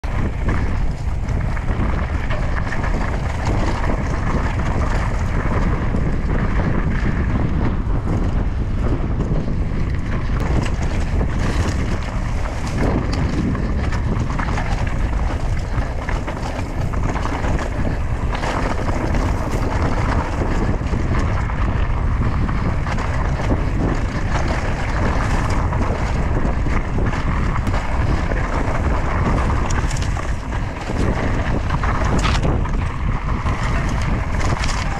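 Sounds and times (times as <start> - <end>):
bike clattering over rough ground: 0.0 - 34.9
tyres running over trail: 0.0 - 34.9
wind rushing over microphone: 0.0 - 34.9.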